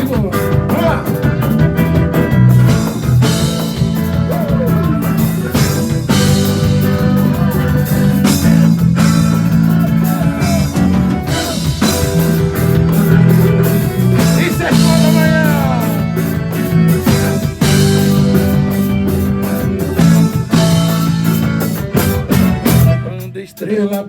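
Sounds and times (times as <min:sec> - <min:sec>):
band playing instrumental: 0:00.0 - 0:24.0
guitar pitch slides: 0:01.2 - 0:23.4.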